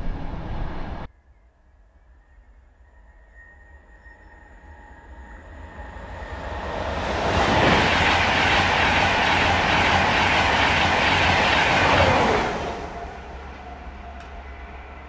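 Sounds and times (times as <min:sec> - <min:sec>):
train passing at speed: 0:02.2 - 0:15.0.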